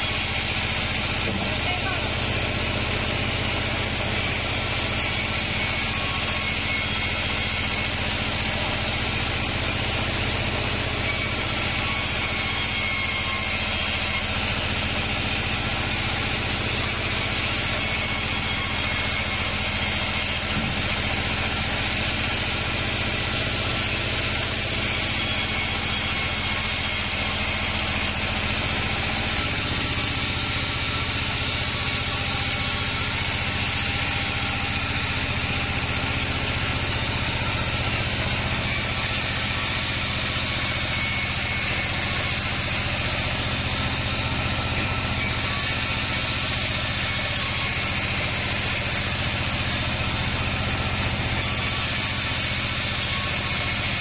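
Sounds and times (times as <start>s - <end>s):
band blade sawing whine: 0.0s - 54.0s
sawmill machine hum: 0.0s - 54.0s.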